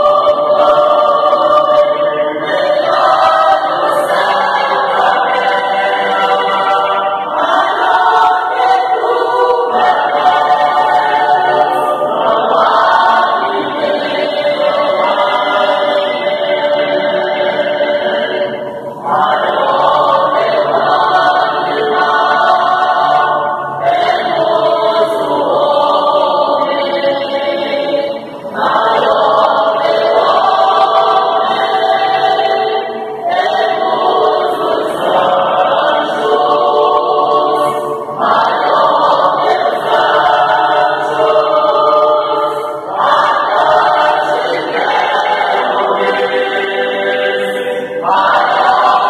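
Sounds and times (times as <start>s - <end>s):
church choir singing a hymn: 0.0s - 49.0s.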